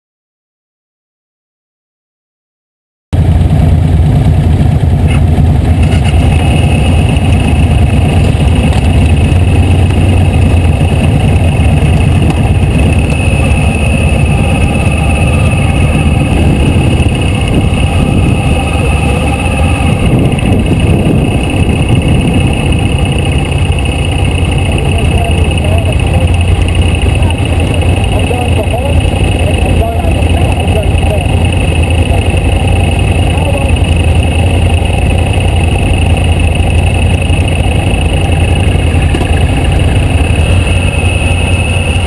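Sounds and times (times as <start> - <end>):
motorcycle engine idling: 3.2 - 42.0
other vehicles idling: 3.2 - 42.0.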